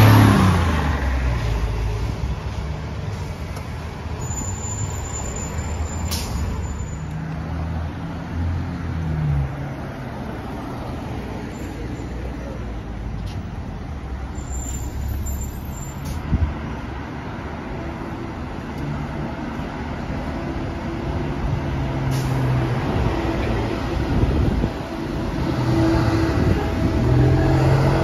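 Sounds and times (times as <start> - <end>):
bus engine rumble: 0.0 - 28.0
cars driving past: 0.0 - 28.0.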